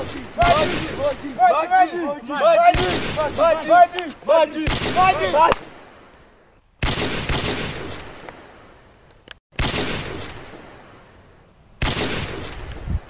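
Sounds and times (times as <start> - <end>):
rifle shots echoing: 0.0 - 6.1, 6.8 - 8.8, 9.6 - 11.2, 11.8 - 12.7.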